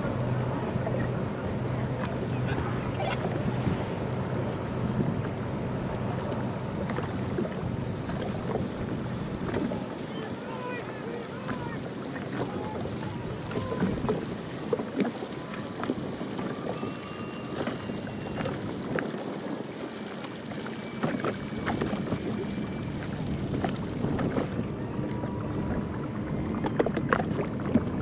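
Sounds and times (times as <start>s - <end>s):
motorboat engine drone: 0.0s - 28.0s
water slapping against hull: 0.0s - 28.0s.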